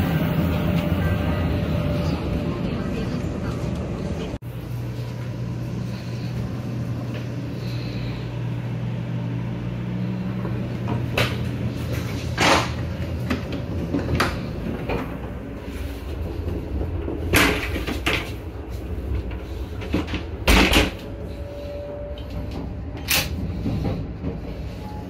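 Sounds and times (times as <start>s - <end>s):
train running low rumble: 0.0s - 25.0s.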